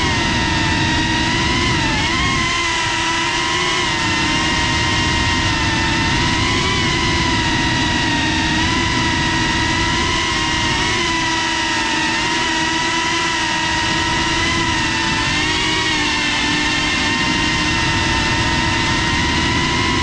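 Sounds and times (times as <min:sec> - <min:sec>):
drone motors whining: 0:00.0 - 0:20.0
rushing wind: 0:00.0 - 0:20.0.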